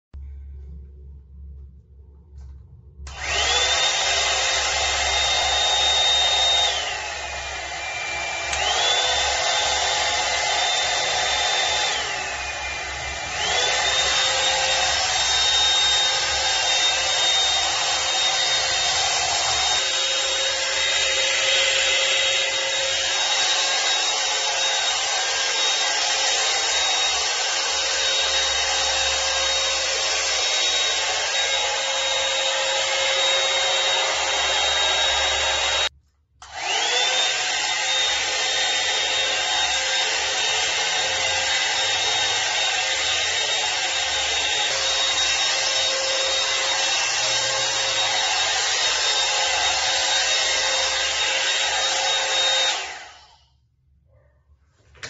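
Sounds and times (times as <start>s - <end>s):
hair dryer motor whining: 3.1s - 53.6s.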